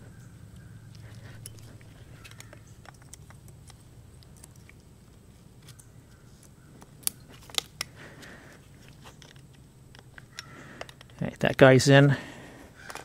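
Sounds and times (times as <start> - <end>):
metallic clicks and scrapes: 0.6 - 11.6.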